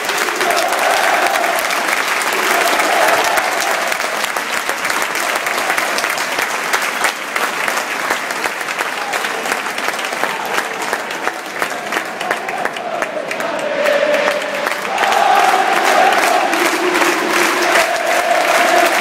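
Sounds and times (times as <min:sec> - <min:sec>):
crowd clapping: 0:00.0 - 0:19.0
crowd voices: 0:00.0 - 0:19.0.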